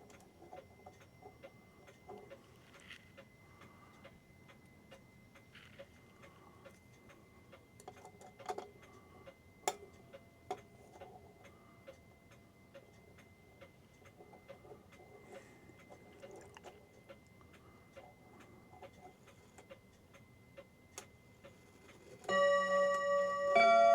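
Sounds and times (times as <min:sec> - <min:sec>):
clock ticking: 0:03.1 - 0:23.9.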